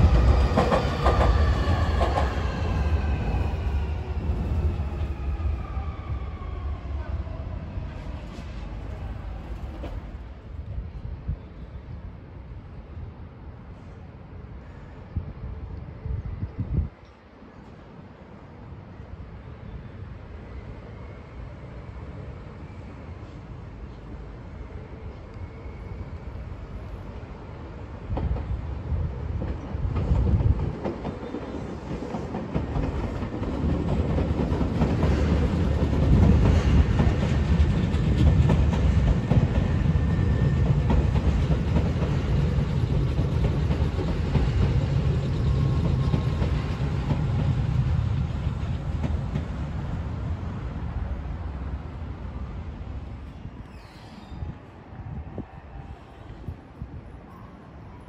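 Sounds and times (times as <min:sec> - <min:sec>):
electric train rumbling past: 0:00.0 - 0:58.0.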